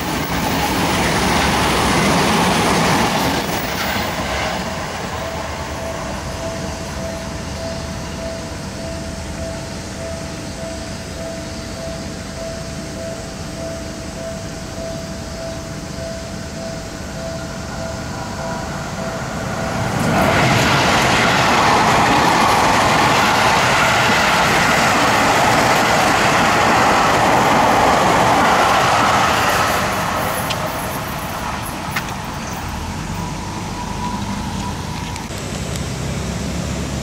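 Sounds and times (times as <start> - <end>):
level-crossing warning tone: 0.0 - 35.6
electric train passing: 0.0 - 37.0.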